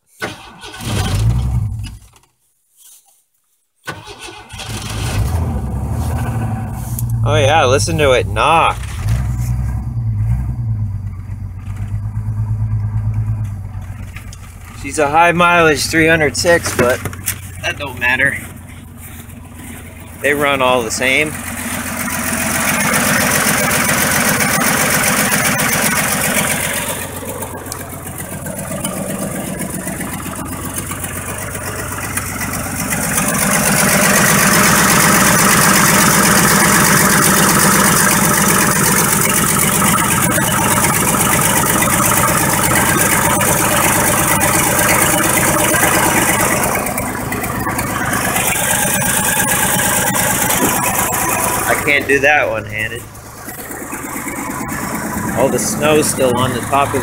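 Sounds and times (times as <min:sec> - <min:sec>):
engine idling with knock: 0:11.0 - 0:57.0.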